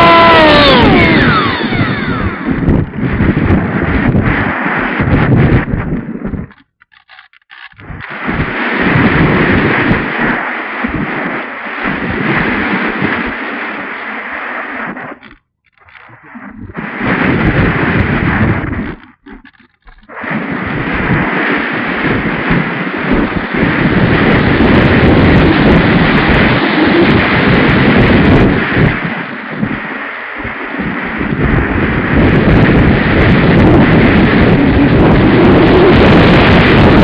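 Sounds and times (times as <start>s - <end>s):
wind and propeller rushing: 0.0s - 37.0s.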